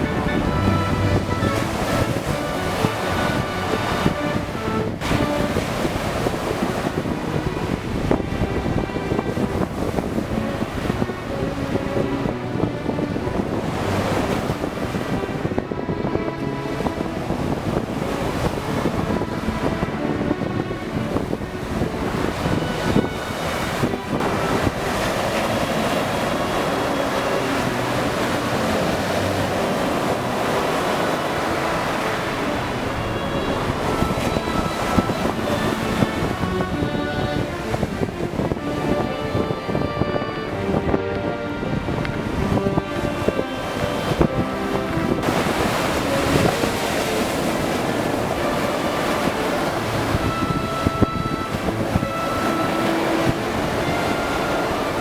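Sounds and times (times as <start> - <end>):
music with steady tones: 0.0 - 55.0
sea waves surf: 0.0 - 55.0
wind buffeting microphone: 0.0 - 55.0.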